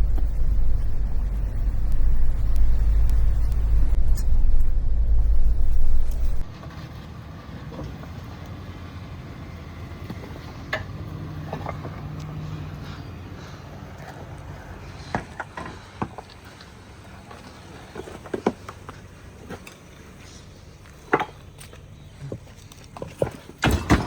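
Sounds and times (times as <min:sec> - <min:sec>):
quiet engine hum: 0:00.0 - 0:24.0
vehicle engine rumble: 0:00.0 - 0:24.0.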